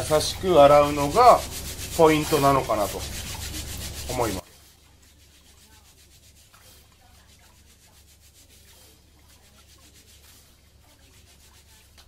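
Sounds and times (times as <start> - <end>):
rice scrubbed by hand in bowl: 0.0 - 12.0.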